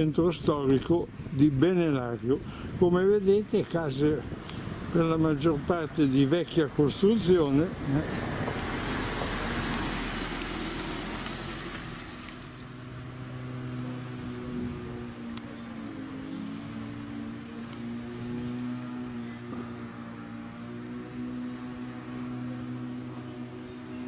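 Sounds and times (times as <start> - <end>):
car passing by: 4.6 - 24.0.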